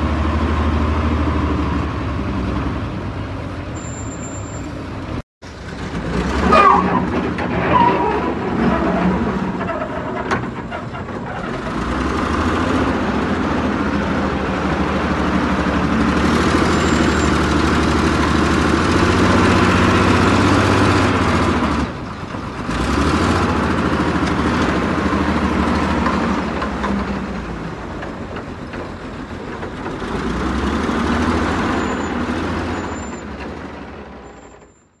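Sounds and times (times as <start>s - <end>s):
diesel engine running hard: 0.0s - 34.8s.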